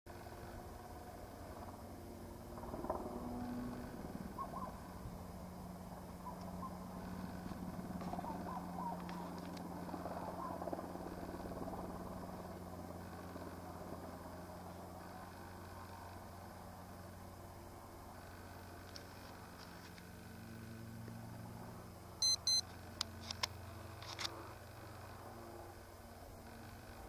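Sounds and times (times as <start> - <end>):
distant helicopter humming: 0.1 - 27.0.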